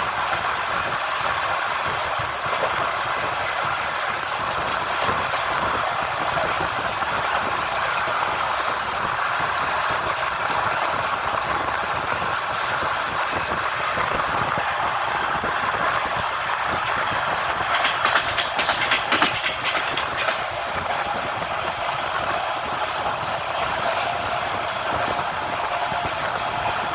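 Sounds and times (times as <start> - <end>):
train wheels rumbling on rails: 0.0 - 26.9
wheels clacking over rail joints: 0.0 - 26.9.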